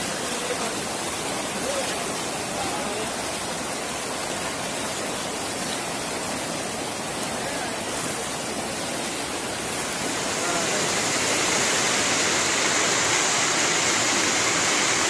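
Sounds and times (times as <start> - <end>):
rushing floodwater: 0.0 - 15.0.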